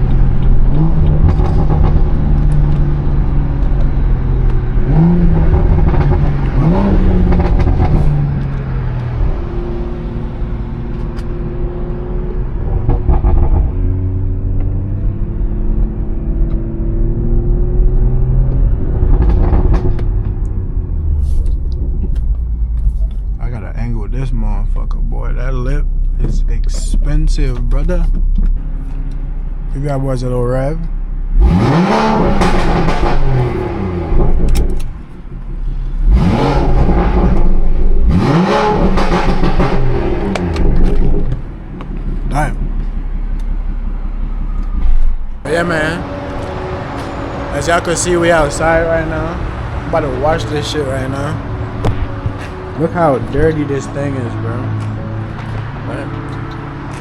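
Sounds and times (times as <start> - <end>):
car engine running while driving: 0.0 - 57.0
exhaust pops and crackles: 0.0 - 57.0.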